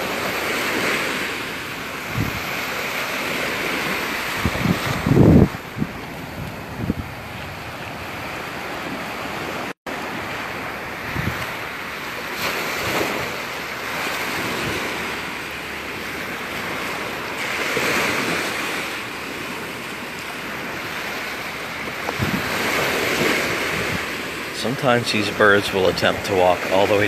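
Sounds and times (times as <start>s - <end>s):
surf washing up beach: 0.0s - 27.0s
wind buffeting microphone: 0.0s - 27.0s.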